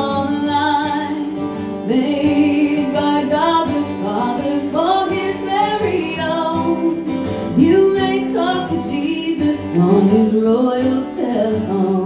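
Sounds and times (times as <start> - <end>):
strummed acoustic guitar: 0.0 - 12.0
woman singing gospel song: 0.0 - 12.0.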